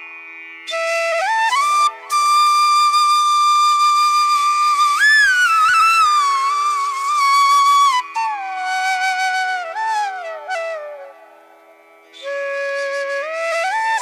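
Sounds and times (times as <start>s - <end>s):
solo flute melody: 0.6s - 14.0s.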